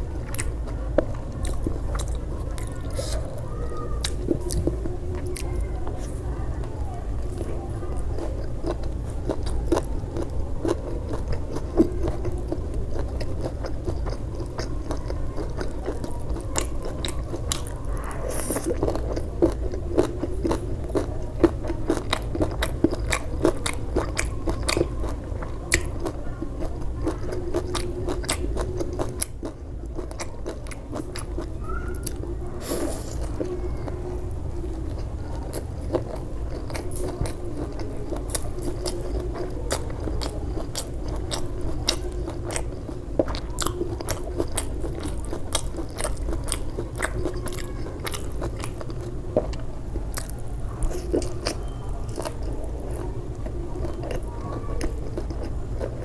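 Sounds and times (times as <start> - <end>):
crunchy chewing and biting: 0.0 - 6.3, 7.1 - 56.0.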